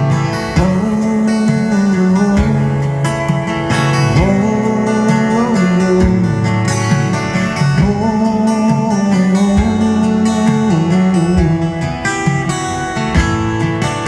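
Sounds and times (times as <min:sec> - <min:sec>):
acoustic guitar: 0:00.0 - 0:14.0
live country band playing: 0:00.0 - 0:14.0.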